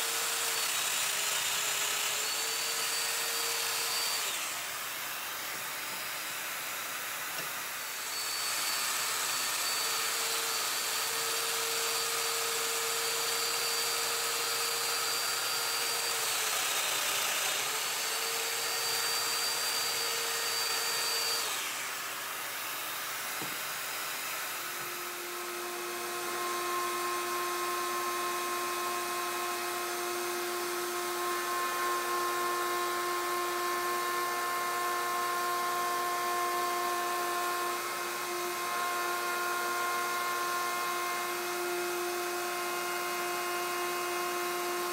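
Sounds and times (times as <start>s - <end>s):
dust extractor: 0.0s - 44.9s
power tool high whine: 0.0s - 44.9s.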